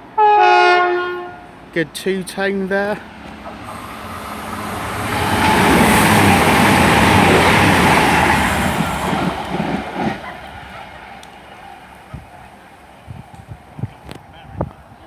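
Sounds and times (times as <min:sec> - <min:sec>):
train passing at high speed: 0:00.0 - 0:15.0.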